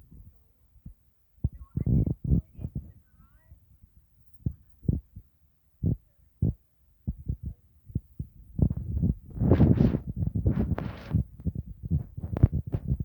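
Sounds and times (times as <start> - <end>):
low thumps on microphone: 0.0 - 13.0.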